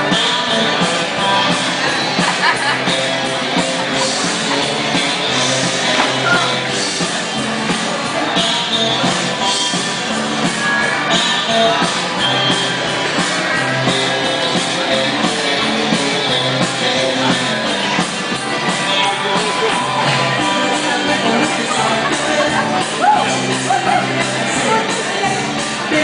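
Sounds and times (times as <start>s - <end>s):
up-tempo dance music: 0.0s - 26.0s.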